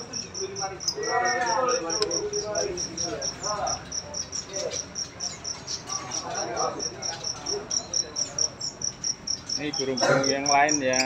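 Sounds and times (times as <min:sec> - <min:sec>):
high-pitched chirping: 0:00.0 - 0:11.0
murmur of voices: 0:00.0 - 0:11.0.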